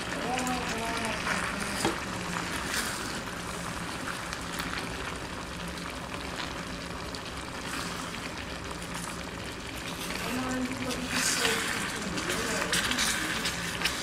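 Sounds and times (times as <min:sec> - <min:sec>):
sauce bubbling and popping: 0:00.0 - 0:14.0.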